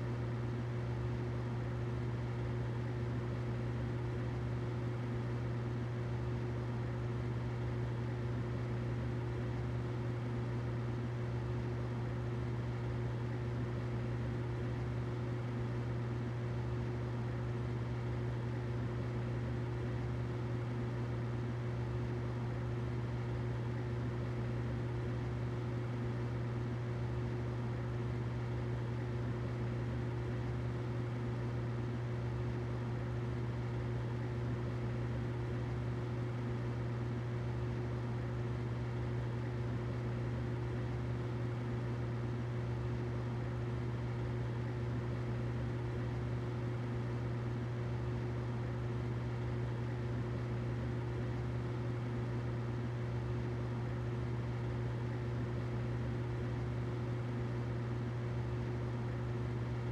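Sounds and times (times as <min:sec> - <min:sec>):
humidifier humming and hissing: 0:00.0 - 0:59.9.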